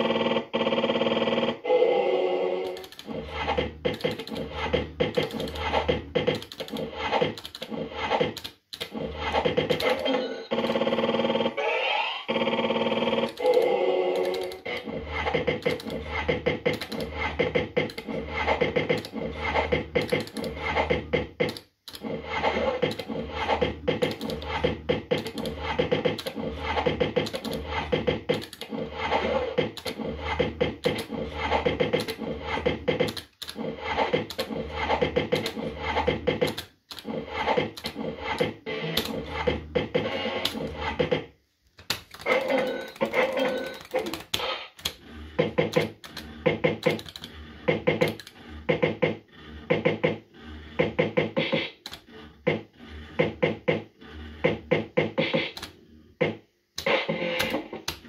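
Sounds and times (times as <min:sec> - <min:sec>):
fruit machine electronic music: 0:02.4 - 0:41.3, 0:42.2 - 0:58.0
rapid clicks: 0:02.6 - 0:11.5, 0:12.3 - 0:58.0.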